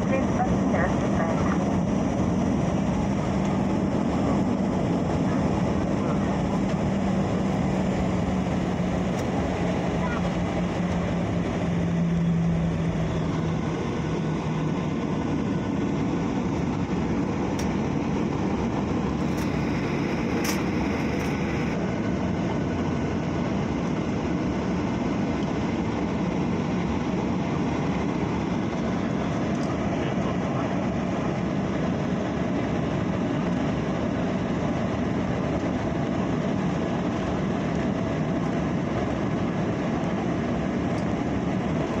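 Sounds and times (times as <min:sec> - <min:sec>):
jet engine and rolling noise: 0:00.0 - 0:42.0.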